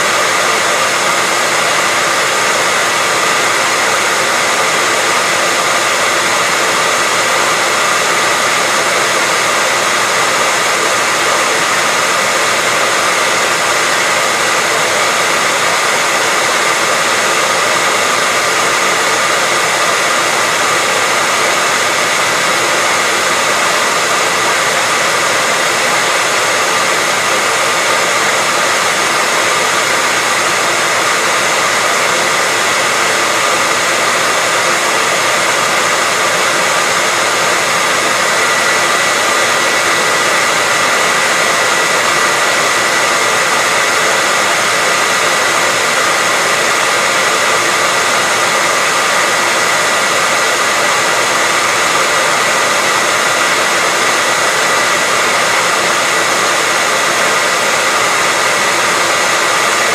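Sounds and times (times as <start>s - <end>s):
hair dryer blowing air: 0.0s - 59.9s
motor and fan whine: 0.0s - 59.9s.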